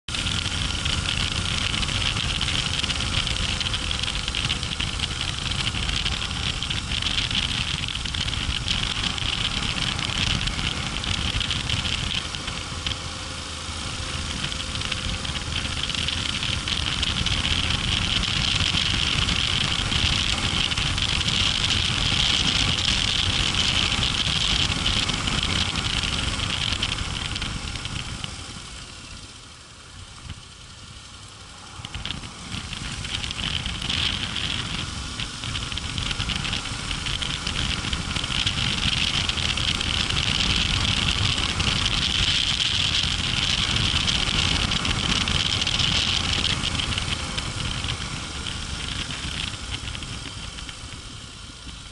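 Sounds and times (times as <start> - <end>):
motorcycle engine running: 0.0 - 51.9
wind rushing over microphone: 0.1 - 29.3, 31.3 - 51.9.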